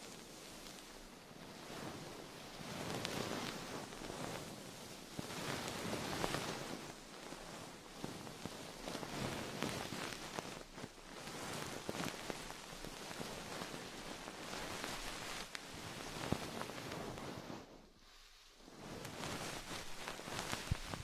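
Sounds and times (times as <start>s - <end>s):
close rustling and crackling: 0.0s - 21.0s.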